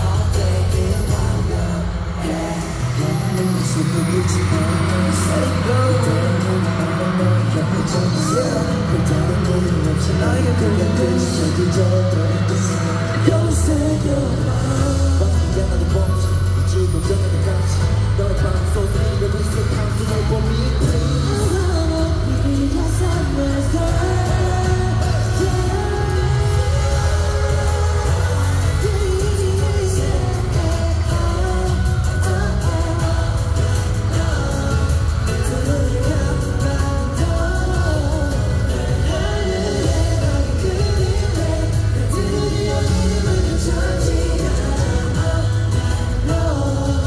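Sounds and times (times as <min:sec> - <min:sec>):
man singing: 0:00.0 - 0:47.0
pop backing track with heavy bass: 0:00.0 - 0:47.0.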